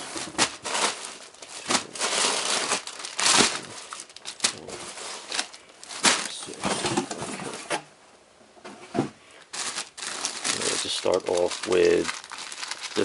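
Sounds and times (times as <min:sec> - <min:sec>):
plastic bags crinkling: 0:00.0 - 0:07.1, 0:09.4 - 0:13.0.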